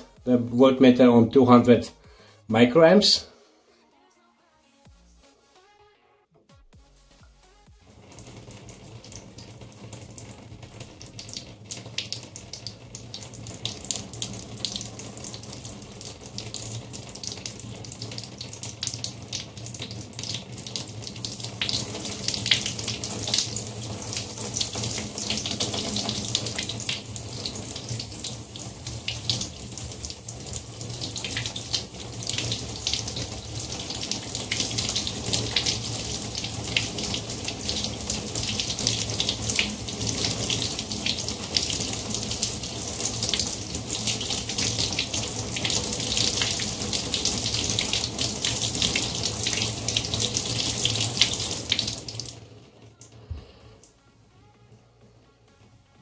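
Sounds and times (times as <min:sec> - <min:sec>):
water running from bathtub tap: 0:07.9 - 0:53.4.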